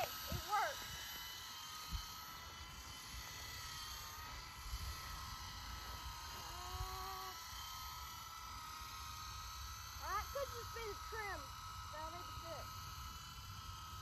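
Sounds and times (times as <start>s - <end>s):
rc helicopter rotor whine: 0.0s - 14.0s.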